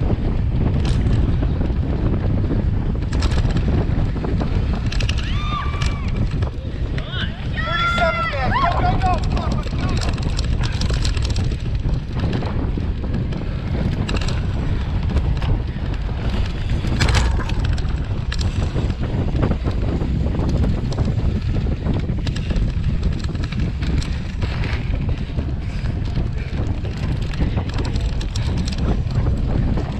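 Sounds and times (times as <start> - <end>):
bike rattling on rough dirt: 0.0 - 29.9
wind buffeting microphone: 0.0 - 29.9.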